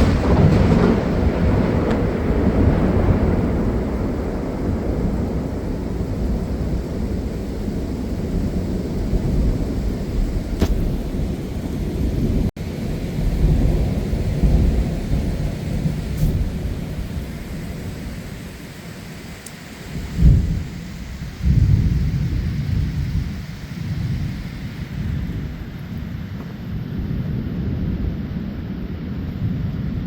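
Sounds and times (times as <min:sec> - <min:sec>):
thunder clap: 0:00.0 - 0:18.6, 0:19.9 - 0:30.0
heavy rain: 0:00.0 - 0:30.0
thunder rumbling: 0:00.0 - 0:30.0.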